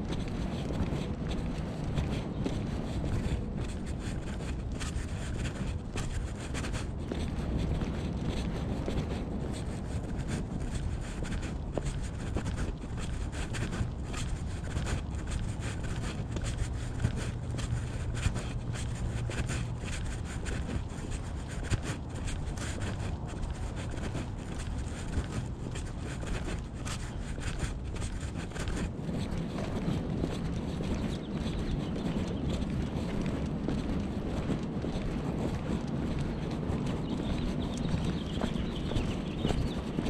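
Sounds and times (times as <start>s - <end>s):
low steady hum: 0.0s - 40.0s
wind rumble on microphone: 0.0s - 40.0s
small irregular scuffs: 0.2s - 40.0s.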